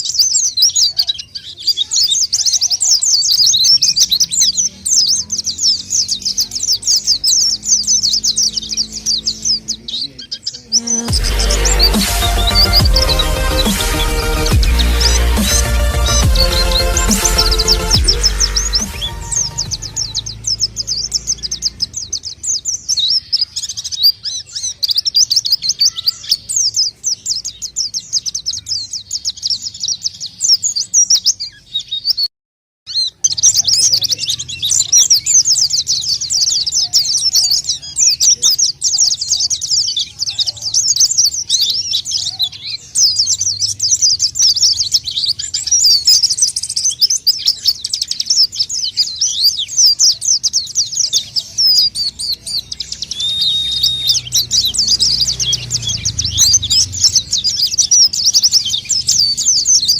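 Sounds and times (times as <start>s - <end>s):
birds twittering: 0.0s - 32.3s, 32.9s - 59.9s.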